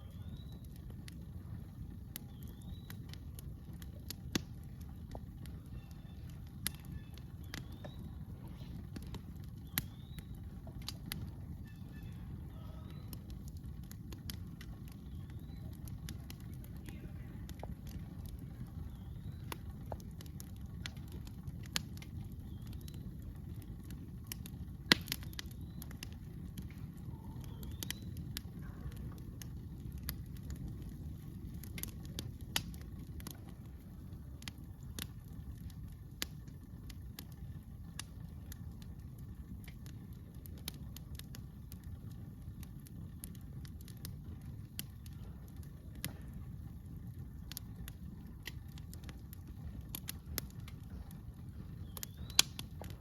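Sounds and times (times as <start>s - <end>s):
campfire crackling and popping: 0.0s - 53.0s
low rumble: 0.0s - 53.0s.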